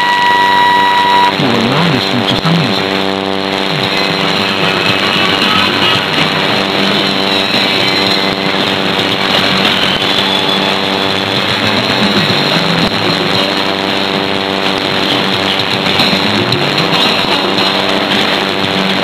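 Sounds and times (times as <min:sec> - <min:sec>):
buzzing hum: 0:00.0 - 0:19.0
radio static and hiss: 0:00.0 - 0:19.0
weak music over radio: 0:00.0 - 0:19.0.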